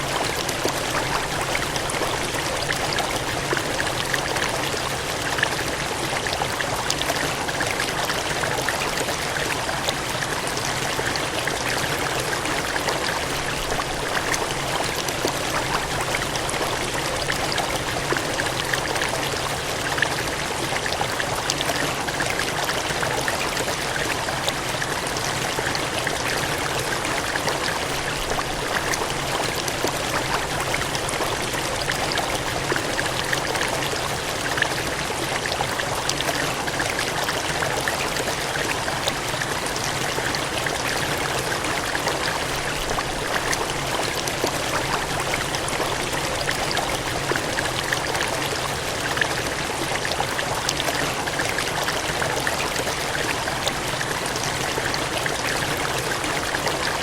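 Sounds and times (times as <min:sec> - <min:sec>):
water gushing and splashing: 0:00.0 - 0:57.0.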